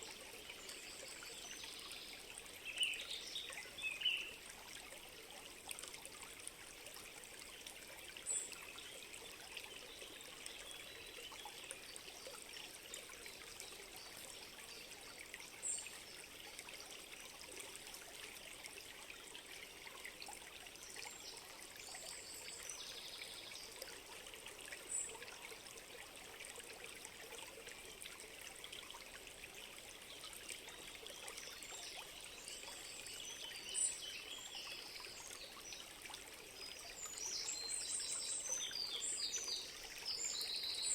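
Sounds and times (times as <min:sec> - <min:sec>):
trickling stream: 0:00.0 - 0:40.9.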